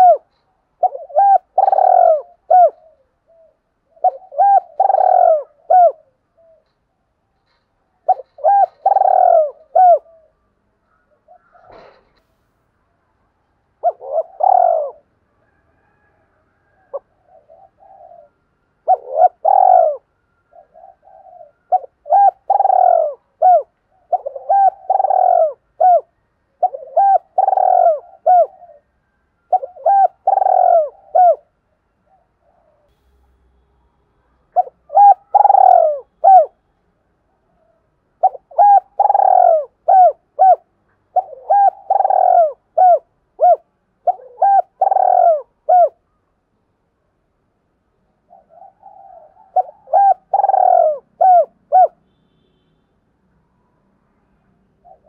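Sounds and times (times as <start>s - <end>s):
dove cooing: 0.0s - 6.8s, 7.4s - 12.2s, 13.8s - 33.0s, 34.5s - 36.6s, 37.5s - 46.0s, 48.2s - 52.0s.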